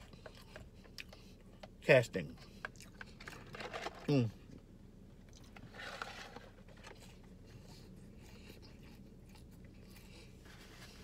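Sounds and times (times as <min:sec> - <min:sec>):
person chewing fries: 0:00.0 - 0:11.0.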